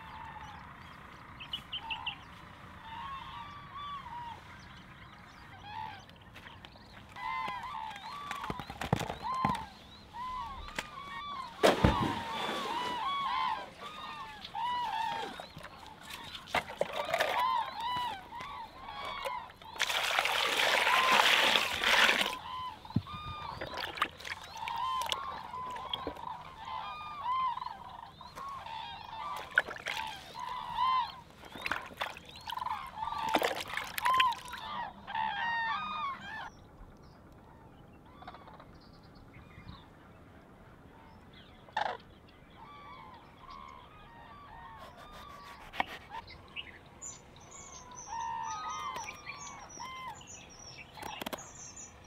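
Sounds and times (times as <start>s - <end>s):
birds honking: 0.0s - 36.5s, 41.6s - 52.0s.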